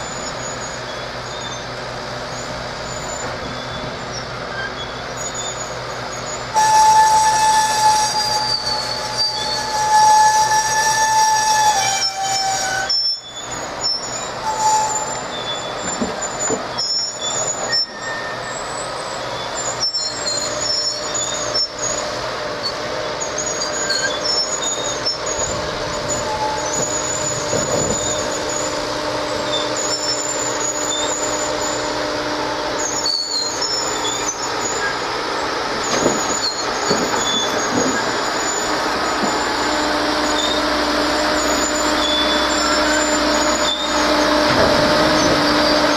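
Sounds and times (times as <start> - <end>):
train rolling on rails: 0.0 - 45.9
train wheels squealing: 0.0 - 45.9.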